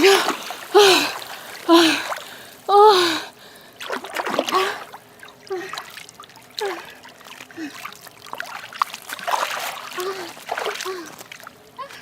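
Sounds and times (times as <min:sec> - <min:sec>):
water splashing and trickling: 0:00.0 - 0:02.8, 0:03.4 - 0:12.0.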